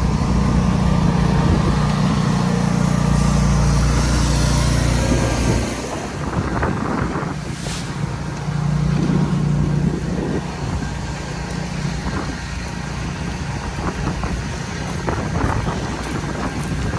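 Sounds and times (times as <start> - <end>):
vehicle engine rumbling: 0.0 - 16.9.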